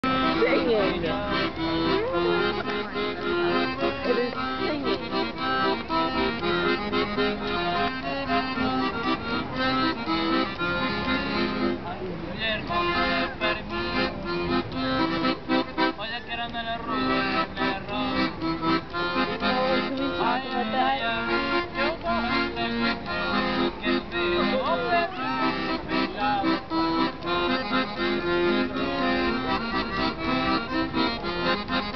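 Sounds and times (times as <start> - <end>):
piano accordion playing: 0.0 - 12.0, 12.6 - 31.9.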